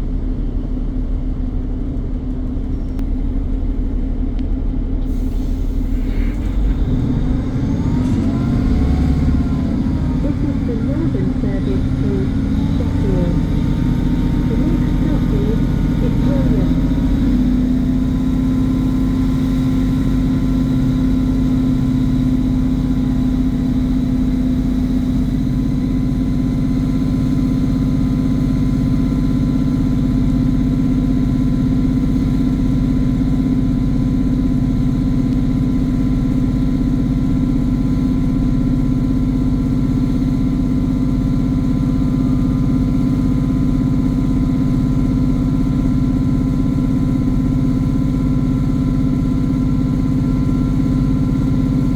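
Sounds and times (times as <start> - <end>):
diesel train engine droning: 0.0 - 51.9.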